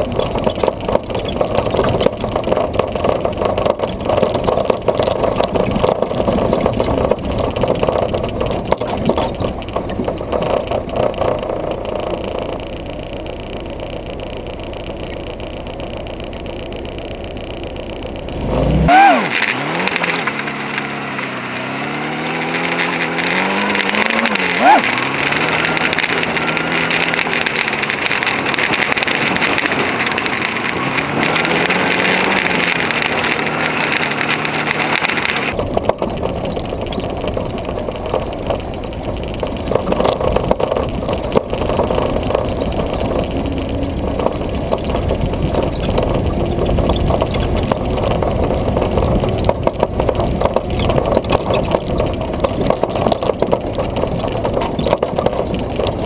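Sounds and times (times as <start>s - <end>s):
jeep engine driving: 0.0s - 56.0s
rough rumble with rattling: 0.0s - 56.0s.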